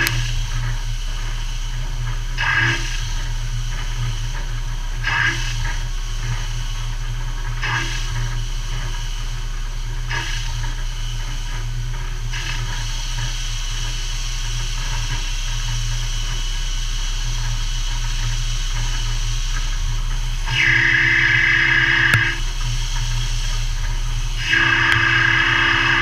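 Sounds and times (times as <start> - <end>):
machine spindle hum and hiss: 0.0 - 26.0.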